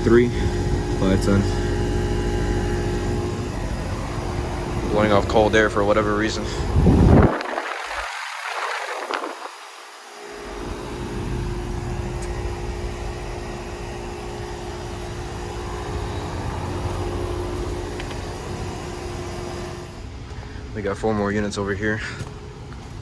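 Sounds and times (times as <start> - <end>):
air conditioner fan blowing: 0.0 - 23.0
steady mid-pitched hum: 0.0 - 23.0.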